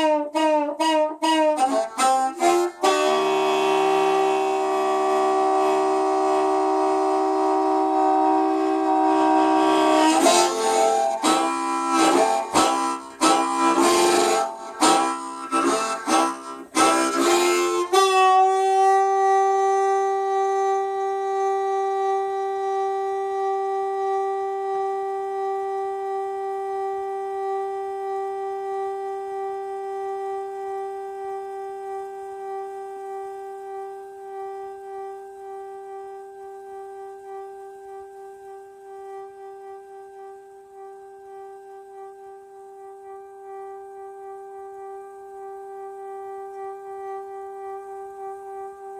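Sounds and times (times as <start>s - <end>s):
harmonica playing chords: 0.0s - 48.9s.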